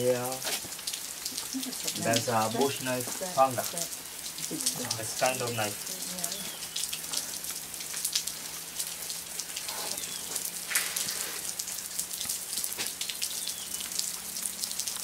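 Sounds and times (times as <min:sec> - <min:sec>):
rain water dripping off rock: 0:00.0 - 0:15.0.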